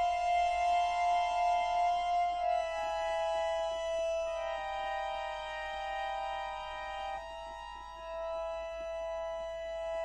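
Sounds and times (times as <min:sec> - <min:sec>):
accordion sustained chord: 0:00.0 - 0:10.0.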